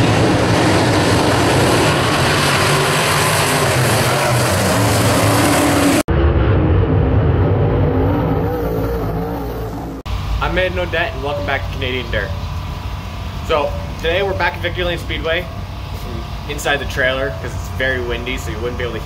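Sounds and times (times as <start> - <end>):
race car engines roaring: 0.0 - 19.0.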